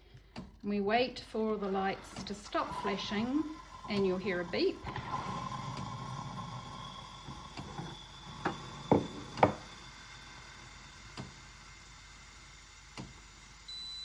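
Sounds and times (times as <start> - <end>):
espresso machine hum and hiss: 1.4 - 14.0.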